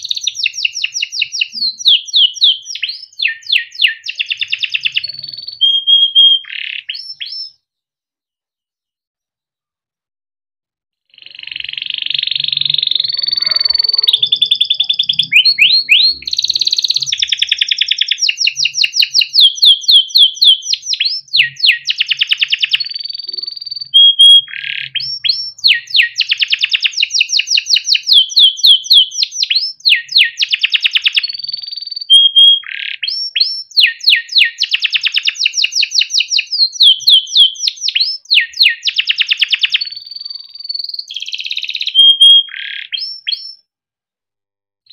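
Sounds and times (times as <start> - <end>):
canary singing: 0.0 - 7.6, 11.1 - 43.7.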